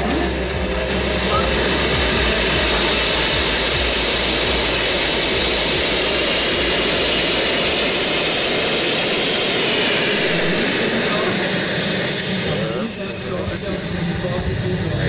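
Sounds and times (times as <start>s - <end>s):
jet turbine roar: 0.0s - 15.0s.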